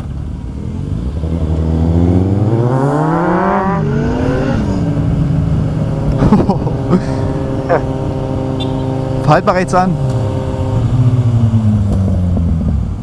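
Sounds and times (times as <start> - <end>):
motorcycle accelerating loudly: 0.0 - 13.0.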